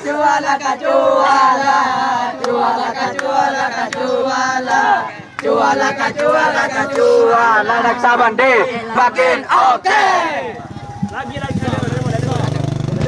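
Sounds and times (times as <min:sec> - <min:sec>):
group chanting and shouting: 0:00.0 - 0:13.0.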